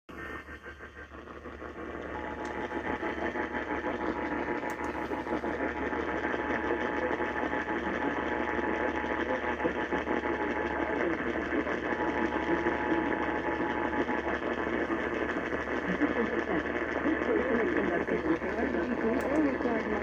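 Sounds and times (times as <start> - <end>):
noisy buzzing am radio: 0.1 - 20.0.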